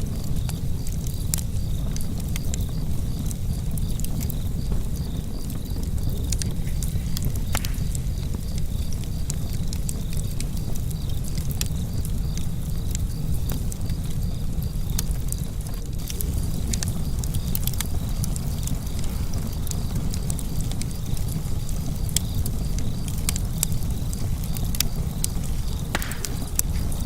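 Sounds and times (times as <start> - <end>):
fire crackling and popping: 0.0 - 27.0
low rumble of fire: 0.0 - 27.0.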